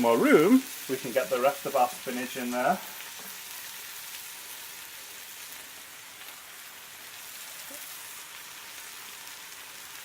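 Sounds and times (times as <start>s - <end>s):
curry sizzling in a frying pan: 0.0s - 10.0s.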